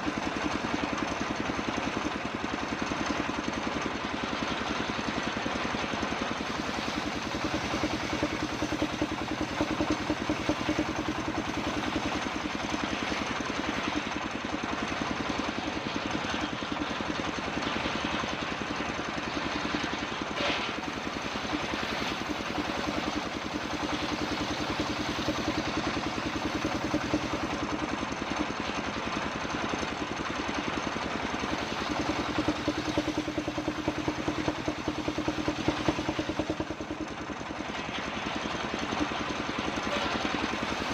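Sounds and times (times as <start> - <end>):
circular sawmill running: 0.0 - 40.9.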